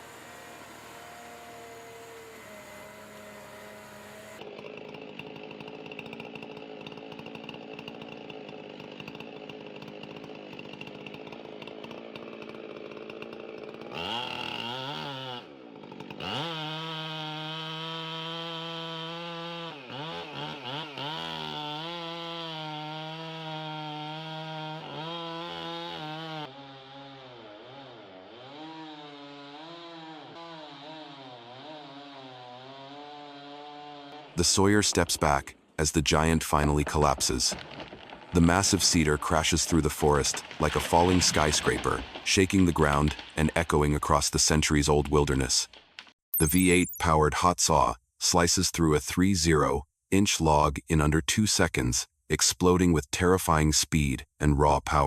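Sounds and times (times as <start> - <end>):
chainsaw cutting tree: 0.0 - 46.2.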